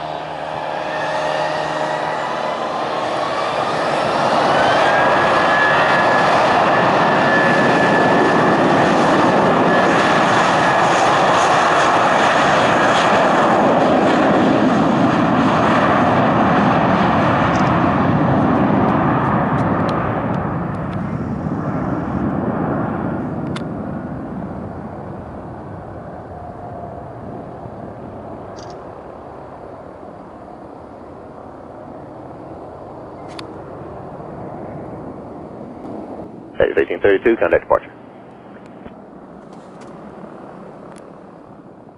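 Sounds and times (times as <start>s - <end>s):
high engine whine: 0.0s - 41.9s
jet engines at takeoff power: 0.0s - 41.9s.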